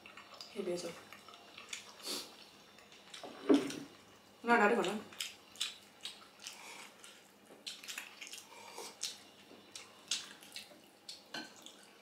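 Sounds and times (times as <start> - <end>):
wet chewing: 0.0 - 11.9.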